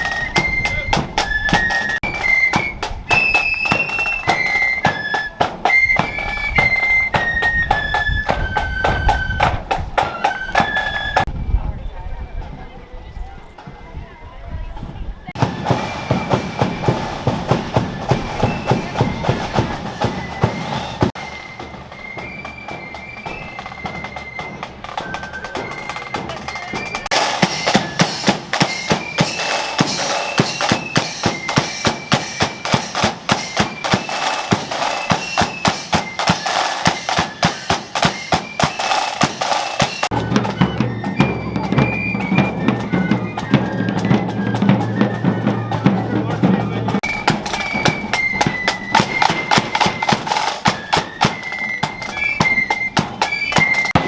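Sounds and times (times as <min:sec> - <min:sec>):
bass drum and snare beats: 0:00.0 - 0:11.3, 0:15.4 - 0:54.0
flute melody: 0:00.0 - 0:11.6, 0:15.0 - 0:54.0.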